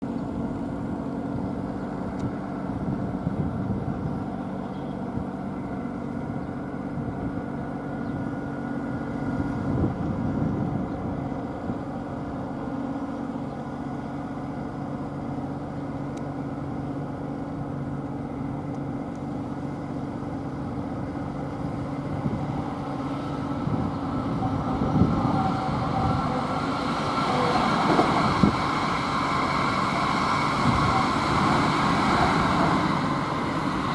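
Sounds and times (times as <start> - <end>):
electric train approaching: 0.0 - 33.9.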